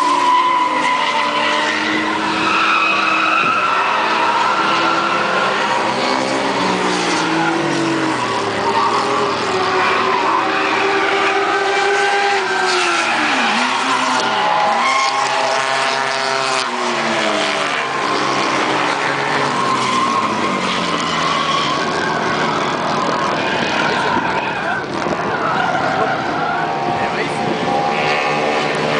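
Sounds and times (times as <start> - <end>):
car engines revving hard: 0.0 - 28.9
tyres squealing and skidding: 0.0 - 28.9.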